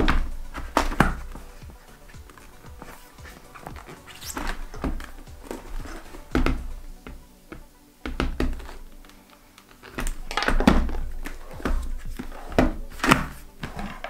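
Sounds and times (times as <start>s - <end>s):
plastic helmet knocks and clicks: 0.0s - 9.1s, 9.9s - 14.0s.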